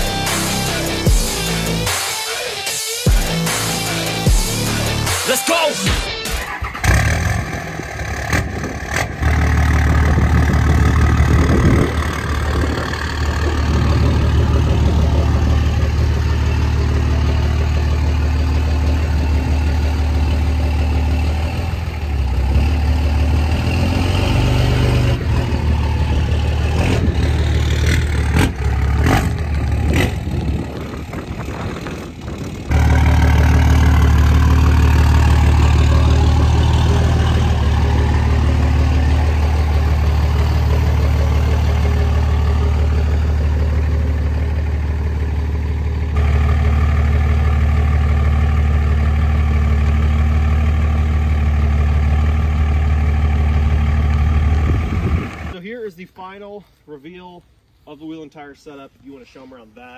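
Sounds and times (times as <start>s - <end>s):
diesel engine idling: 3.2s - 55.6s.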